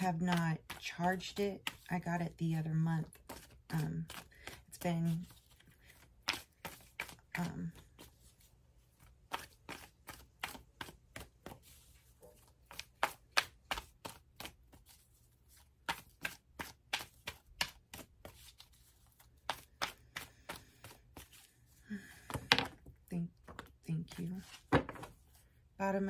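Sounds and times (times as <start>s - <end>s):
cards being shuffled: 0.0s - 25.4s.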